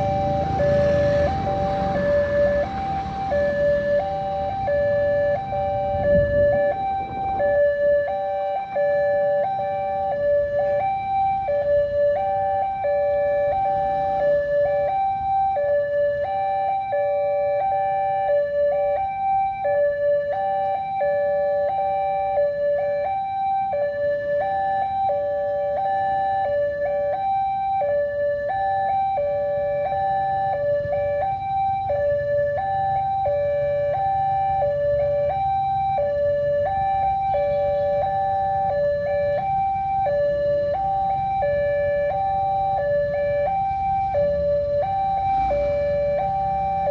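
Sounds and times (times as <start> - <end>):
two-tone crossing alarm: 0.0 - 46.9.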